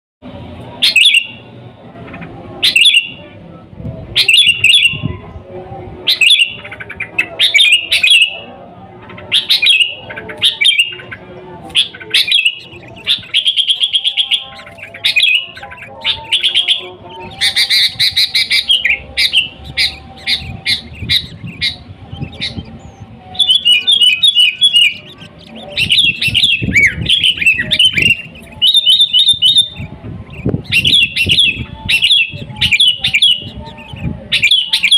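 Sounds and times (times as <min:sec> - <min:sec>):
bulbul singing: 0:00.6 - 0:34.9.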